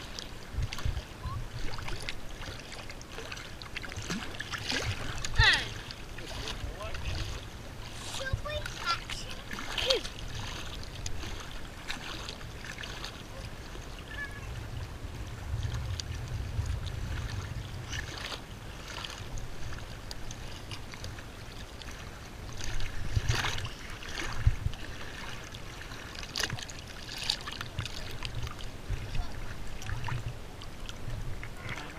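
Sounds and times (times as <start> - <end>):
wind rumble on microphone: 0.0 - 8.7, 9.5 - 31.9
splashes and knocks: 0.0 - 31.9
water lapping against boat hull: 0.0 - 31.9.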